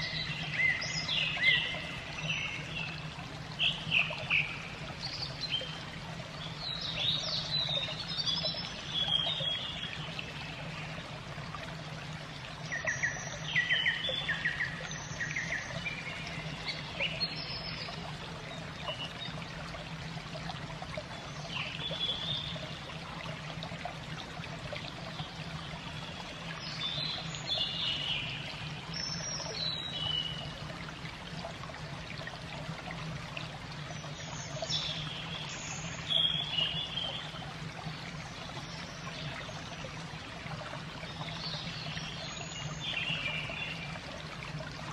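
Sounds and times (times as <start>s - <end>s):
trickling water: 0.0s - 44.9s.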